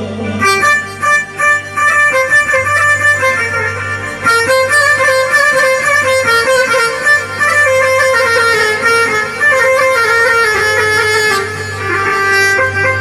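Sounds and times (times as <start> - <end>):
folk music on keyboard: 0.0 - 13.0.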